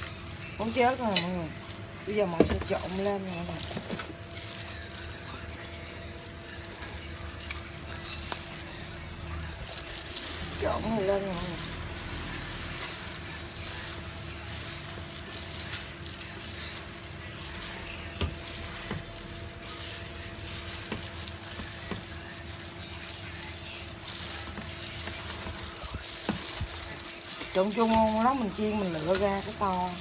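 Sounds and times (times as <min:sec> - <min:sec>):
gloved hands mixing food: 0:00.0 - 0:30.0.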